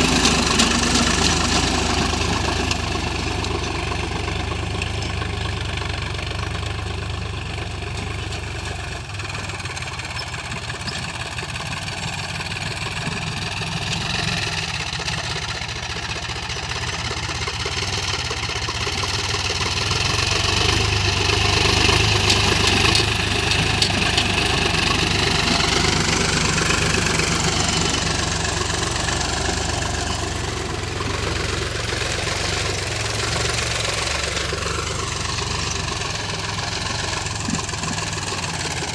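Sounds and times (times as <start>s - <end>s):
ploughing machine engine running: 0.0s - 38.9s.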